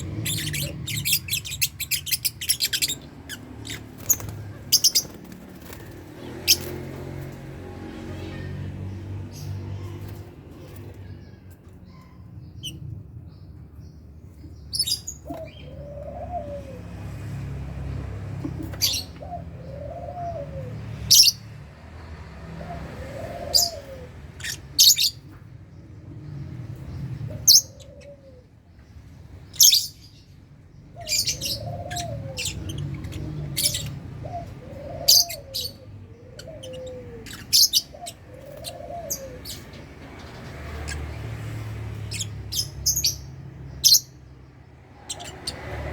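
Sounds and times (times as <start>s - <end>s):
lovebirds chirping: 0.0s - 7.2s, 8.0s - 17.0s, 22.8s - 45.9s.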